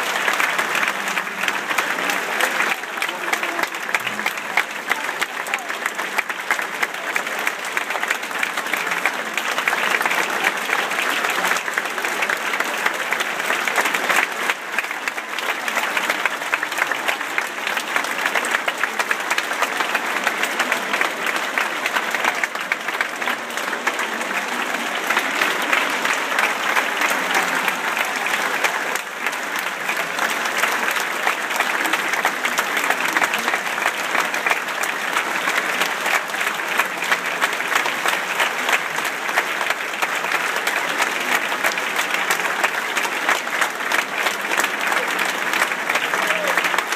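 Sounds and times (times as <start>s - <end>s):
audience applauding: 0.0s - 46.9s.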